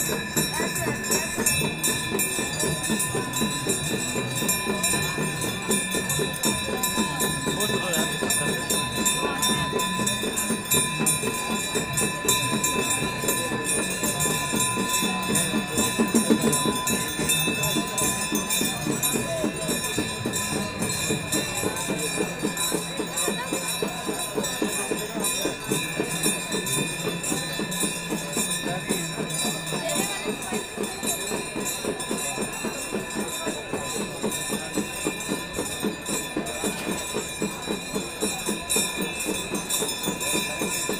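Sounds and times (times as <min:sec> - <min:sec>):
brass bells ringing rapidly: 0:00.0 - 0:40.9.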